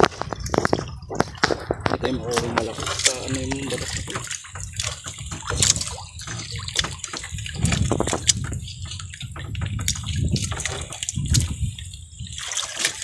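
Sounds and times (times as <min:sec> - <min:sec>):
fishing net being hauled: 0:00.0 - 0:13.0
water dripping and splashing: 0:00.0 - 0:13.0.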